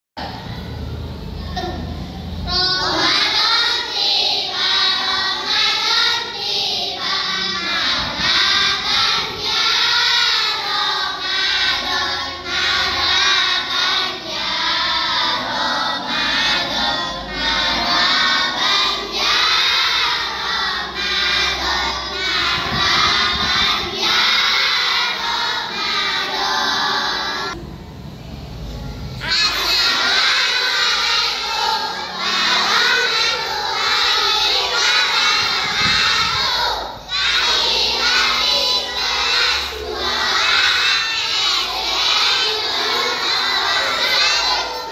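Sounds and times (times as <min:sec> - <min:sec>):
children singing in chorus: 0:02.4 - 0:27.6, 0:29.2 - 0:44.9.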